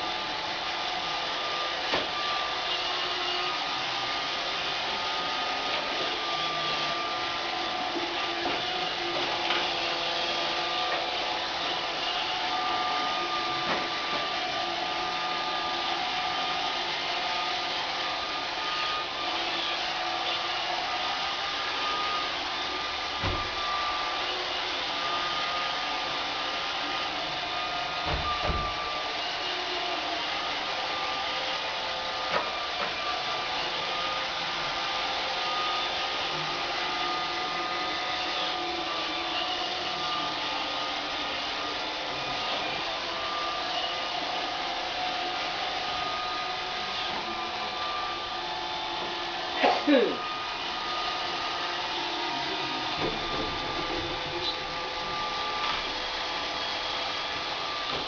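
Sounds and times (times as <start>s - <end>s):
robot vacuum whirring: 0.0s - 58.0s.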